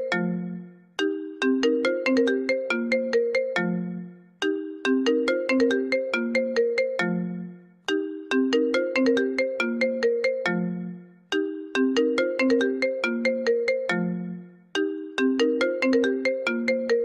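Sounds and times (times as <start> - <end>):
phone ringtone melody: 0.0 - 17.0.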